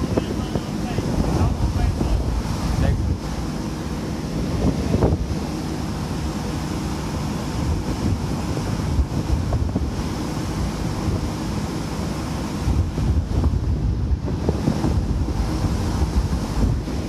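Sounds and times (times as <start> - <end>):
sea wash: 0.0 - 17.0
wind buffeting microphone: 0.0 - 17.0.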